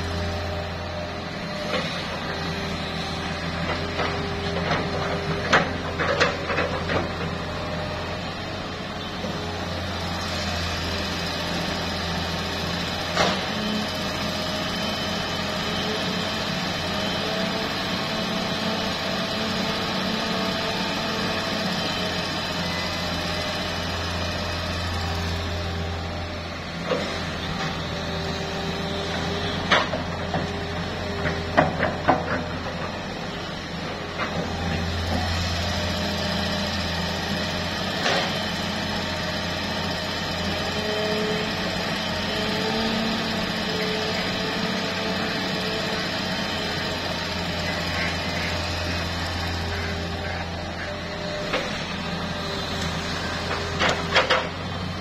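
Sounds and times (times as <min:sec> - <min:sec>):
excavator engine and hydraulics: 0:00.0 - 0:55.0.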